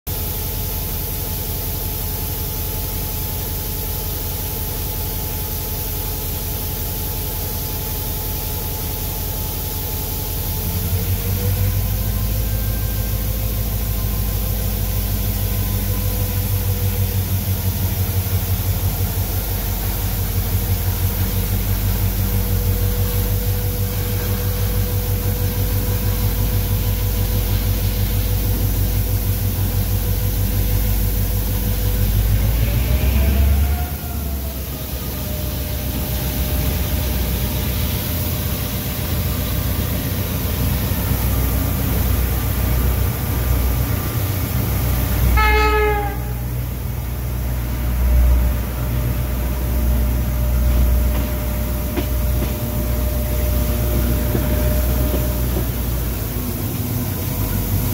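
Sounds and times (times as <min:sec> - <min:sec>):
diesel locomotive engine idling: 0:00.1 - 0:57.9.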